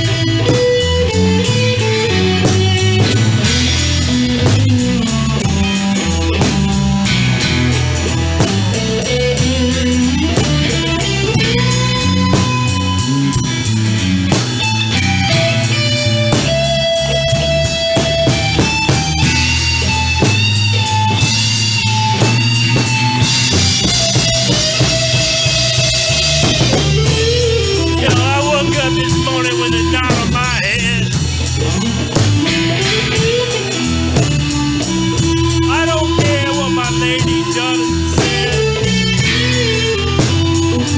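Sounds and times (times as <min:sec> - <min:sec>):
bass guitar line: 0:00.0 - 0:40.9
drum kit beat: 0:00.0 - 0:40.9
electric lead guitar bending notes: 0:00.0 - 0:40.9.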